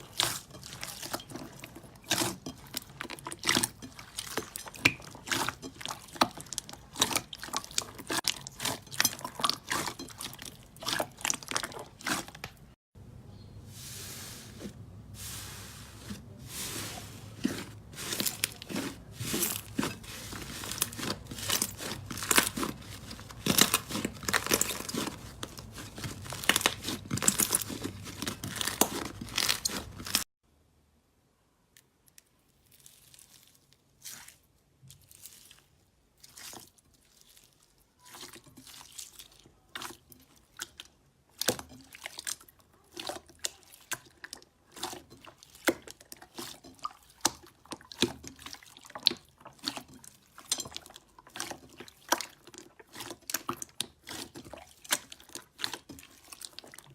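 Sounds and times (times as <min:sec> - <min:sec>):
slime crunching and crackling: 0:00.0 - 0:12.8, 0:15.2 - 0:30.3, 0:32.3 - 0:56.9.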